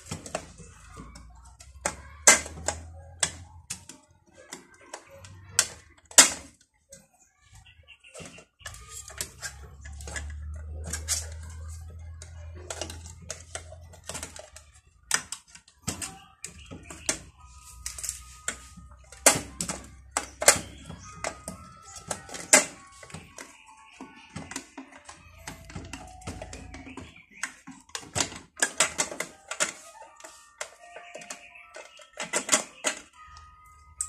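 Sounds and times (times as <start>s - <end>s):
plastic printer parts clicking: 0.0s - 34.0s.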